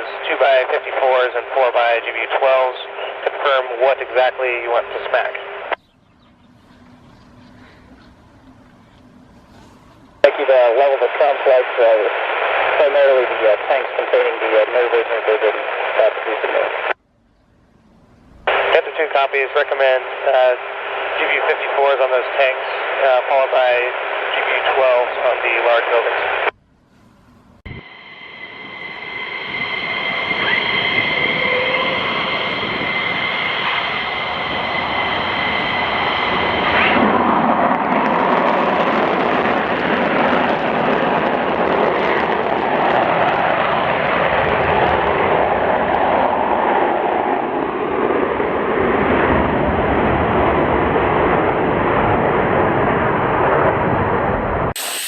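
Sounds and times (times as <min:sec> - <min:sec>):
jet engine whine and roar: 0:00.0 - 0:55.0.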